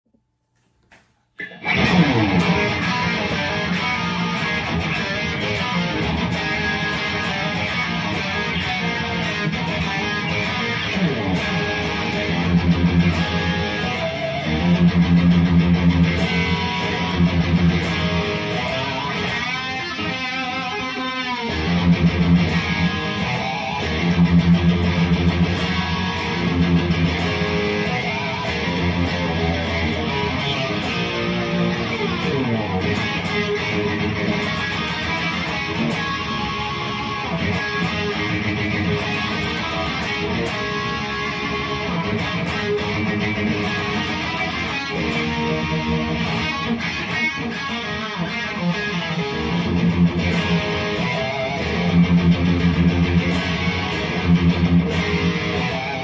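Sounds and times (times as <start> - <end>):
electric guitar riffs and leads: 1.4 - 56.0.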